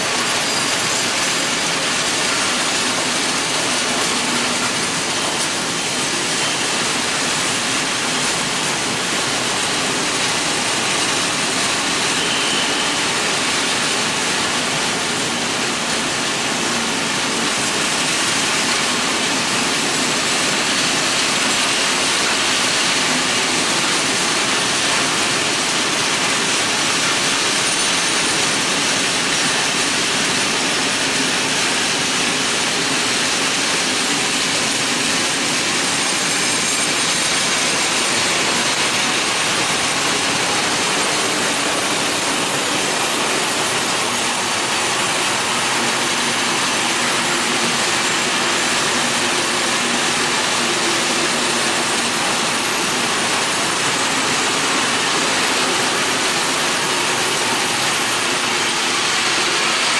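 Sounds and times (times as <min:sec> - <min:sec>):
steel wheels on track: 0:00.0 - 0:59.9.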